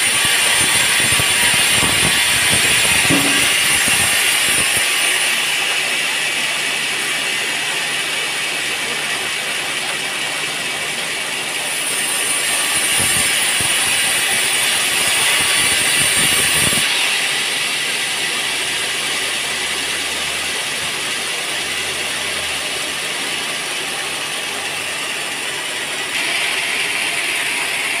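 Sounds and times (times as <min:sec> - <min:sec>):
bandsaw cutting through log: 0:00.0 - 0:28.0.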